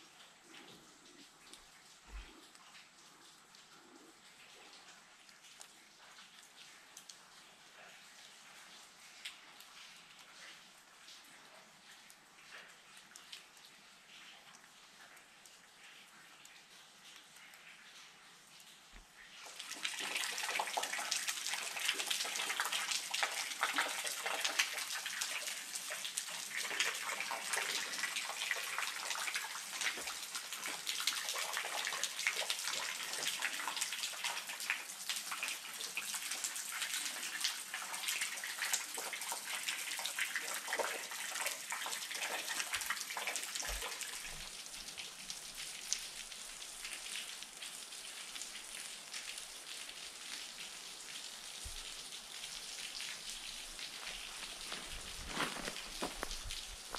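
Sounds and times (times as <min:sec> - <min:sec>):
water dripping and splashing on rock: 0:00.2 - 0:07.6, 0:08.2 - 0:56.9.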